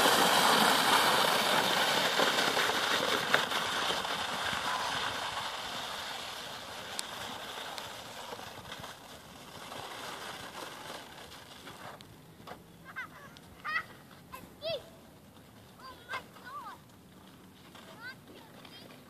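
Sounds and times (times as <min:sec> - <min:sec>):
sleds sliding over crusty snow: 0:00.0 - 0:19.0.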